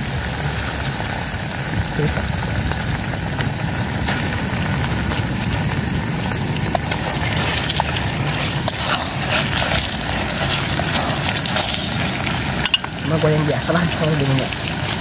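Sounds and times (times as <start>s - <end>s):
low rumble: 0.0s - 15.0s
shrimp sizzling in a pan: 0.0s - 15.0s.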